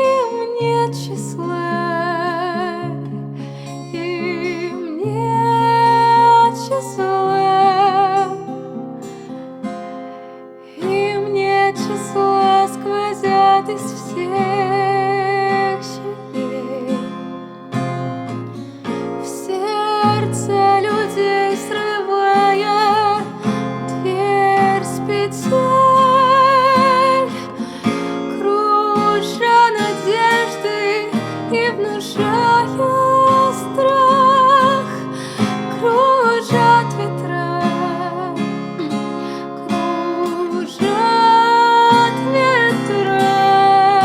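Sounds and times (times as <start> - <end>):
woman singing: 0.0 - 9.4, 10.6 - 18.4, 19.0 - 44.0
acoustic guitar: 0.0 - 44.0.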